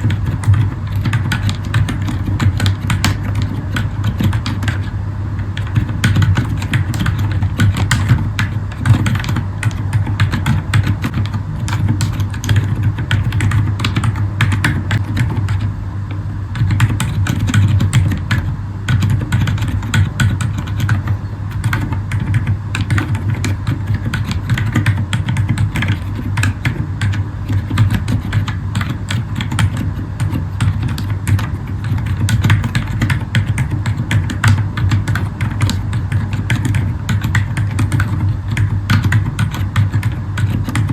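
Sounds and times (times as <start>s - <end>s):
dampened keyboard keystrokes: 0.0s - 4.9s, 5.6s - 40.9s
steady low hum: 0.0s - 40.9s.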